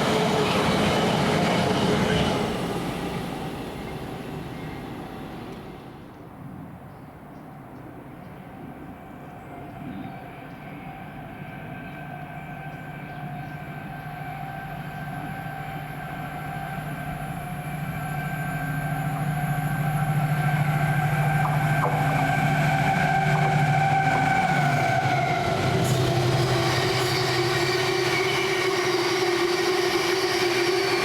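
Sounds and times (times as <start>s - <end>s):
train approaching: 0.0s - 6.7s, 7.6s - 31.0s.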